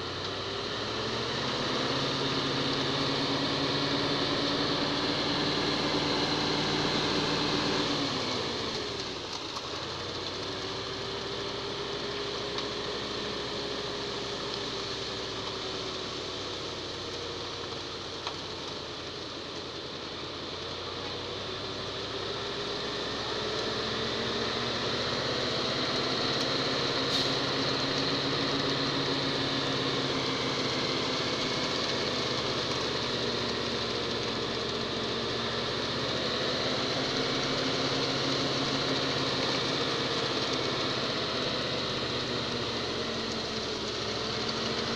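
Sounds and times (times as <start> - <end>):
concrete truck engine running: 0.0 - 44.9
concrete pouring down chute: 0.5 - 44.9.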